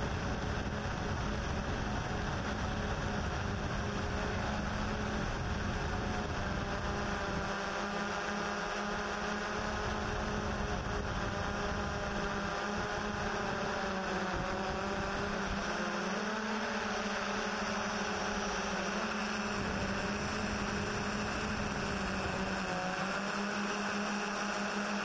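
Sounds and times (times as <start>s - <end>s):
drone motors humming: 0.0s - 25.0s.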